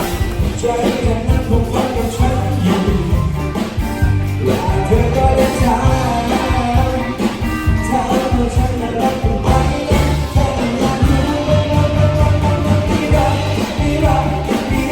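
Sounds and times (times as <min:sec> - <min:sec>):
person singing: 0:00.0 - 0:03.7, 0:04.4 - 0:14.9
music with steady bass beat: 0:00.0 - 0:14.9.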